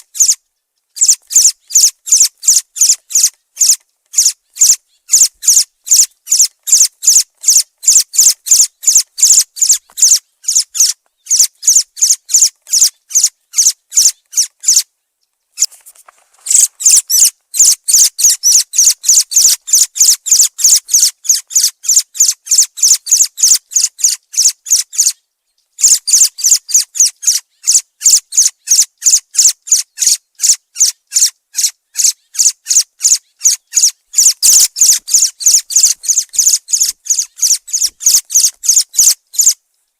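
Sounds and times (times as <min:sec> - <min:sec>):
thrush calling: 0:00.0 - 0:00.4, 0:01.0 - 0:14.9, 0:16.5 - 0:25.2, 0:25.8 - 0:39.6.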